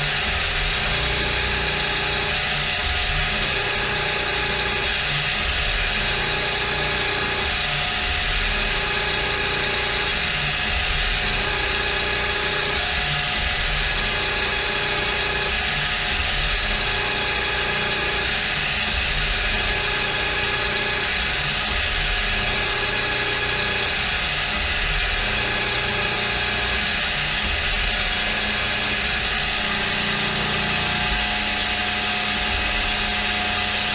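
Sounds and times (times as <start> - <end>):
milling machine spindle running: 0.0 - 33.9.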